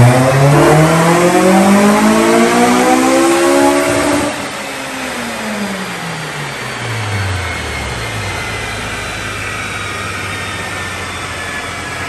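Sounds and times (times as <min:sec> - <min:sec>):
car engine revving and winding down: 0:00.0 - 0:12.0.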